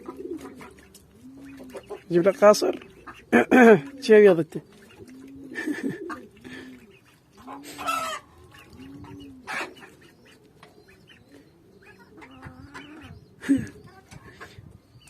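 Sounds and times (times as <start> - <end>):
chicken clucking: 0.0 - 14.8.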